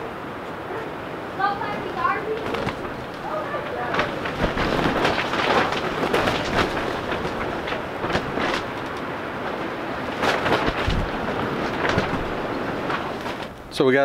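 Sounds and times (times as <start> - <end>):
greenhouse rattling in wind: 0.0 - 14.0
plastic sheeting flapping: 1.4 - 14.0.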